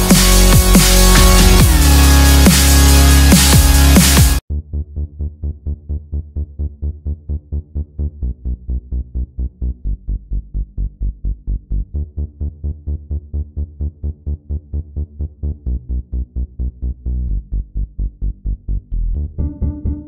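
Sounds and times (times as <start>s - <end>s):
electronic music with pulsing bass: 0.0s - 20.0s.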